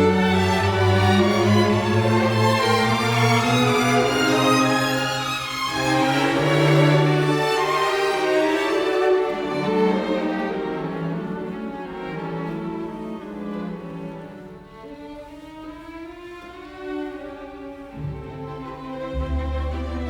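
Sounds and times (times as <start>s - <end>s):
slow bowed strings music: 0.0s - 20.0s.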